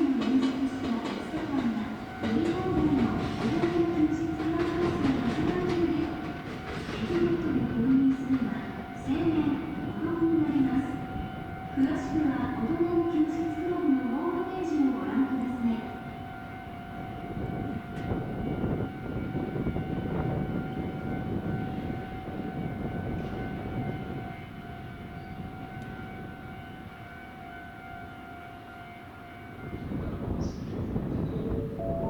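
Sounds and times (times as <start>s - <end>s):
train rumbling into platform: 0.0s - 32.0s.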